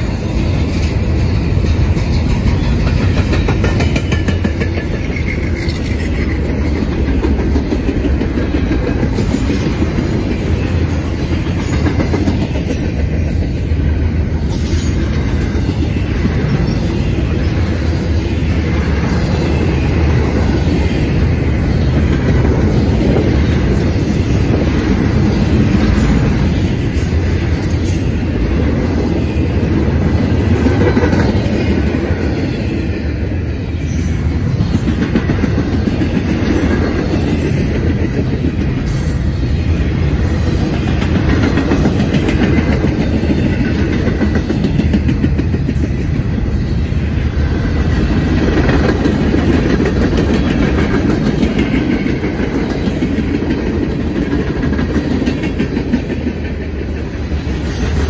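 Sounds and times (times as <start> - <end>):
steel wheels running on rails: 0.0 - 58.0.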